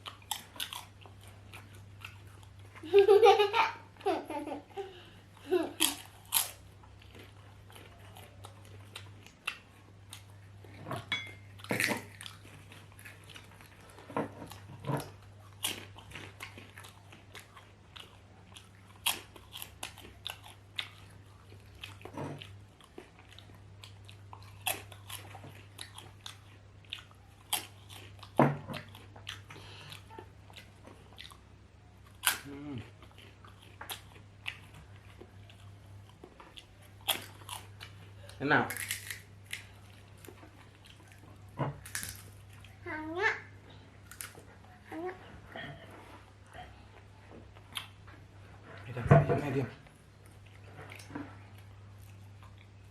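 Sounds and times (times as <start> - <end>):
chewing and biting food: 0.0 - 2.9, 5.7 - 42.8, 50.0 - 52.9.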